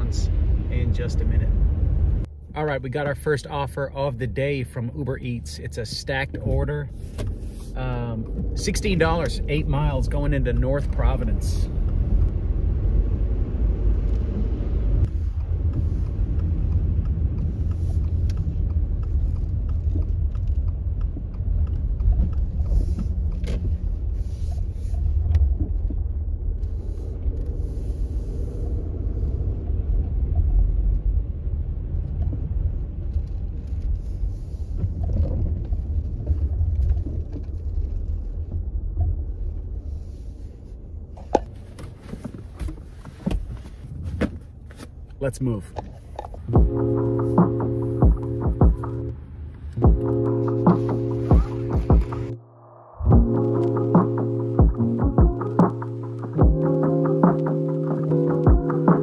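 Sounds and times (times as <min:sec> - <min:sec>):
car rumble from inside cabin: 0:00.0 - 0:52.4, 0:53.1 - 0:59.0.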